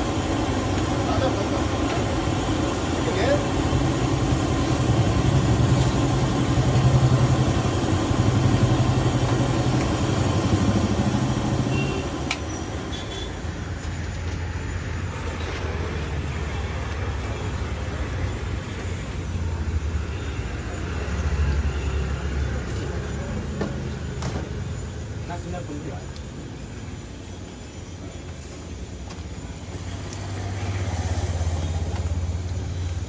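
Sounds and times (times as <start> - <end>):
street traffic noise: 0.0 - 33.0
vehicle engine idling: 0.0 - 33.0.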